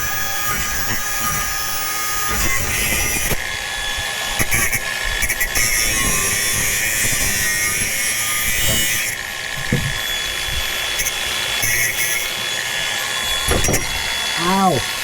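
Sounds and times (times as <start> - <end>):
angle grinder cutting metal: 0.0 - 15.0.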